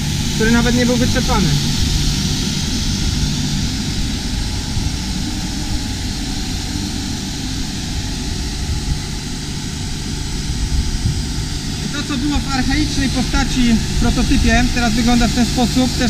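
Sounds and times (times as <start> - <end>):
carpet scrubbing machine droning: 0.0 - 16.0.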